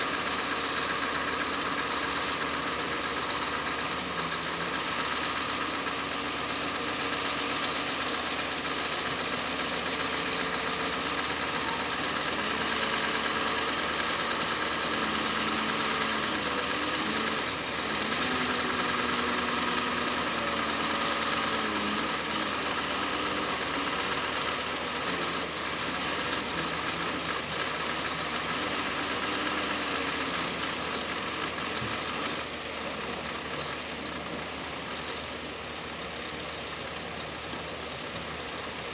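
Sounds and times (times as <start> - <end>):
truck diesel engine: 0.0 - 38.9.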